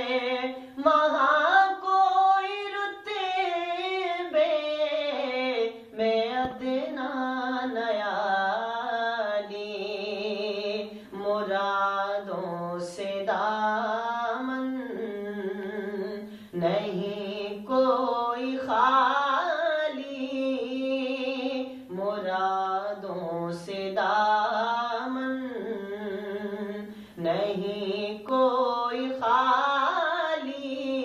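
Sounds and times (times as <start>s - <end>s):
man singing devotional song: 0.0s - 31.0s.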